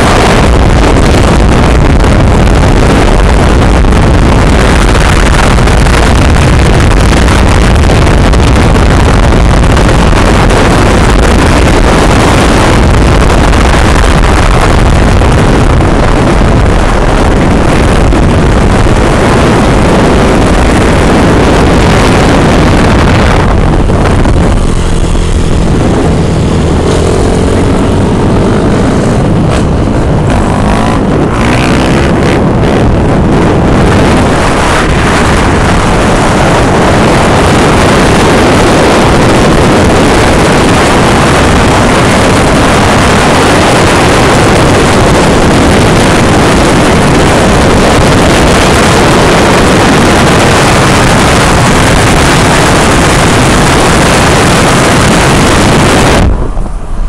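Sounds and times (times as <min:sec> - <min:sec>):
car engine: 0:00.0 - 0:57.0
wind and road noise: 0:00.0 - 0:57.0.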